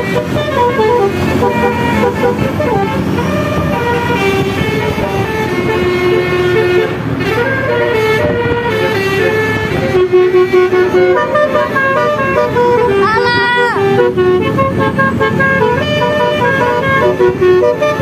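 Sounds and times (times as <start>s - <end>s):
multi-tone horn melody: 0.0s - 18.0s.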